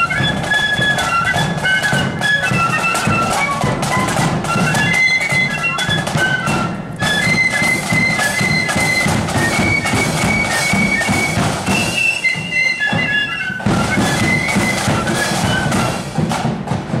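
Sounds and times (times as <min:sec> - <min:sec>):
flutes playing melody: 0:00.0 - 0:16.4
marching drums: 0:00.0 - 0:17.0.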